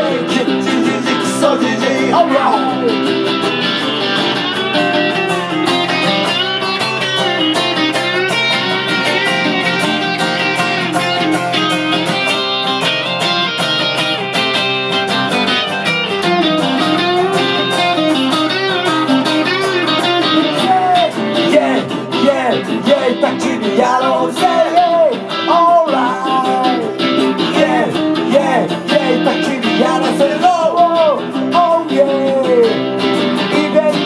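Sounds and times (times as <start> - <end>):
lead guitar line: 0.0 - 34.0
strummed rhythm guitar: 0.0 - 34.0.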